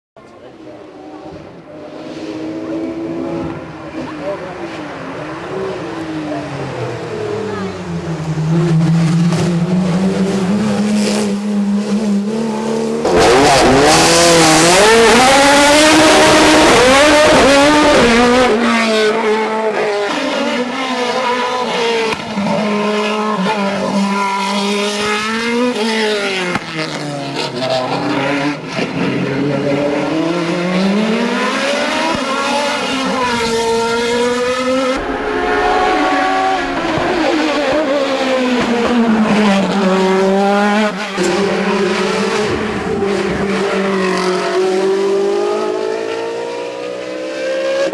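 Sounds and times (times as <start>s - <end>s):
race car engines revving: 0.2s - 47.9s.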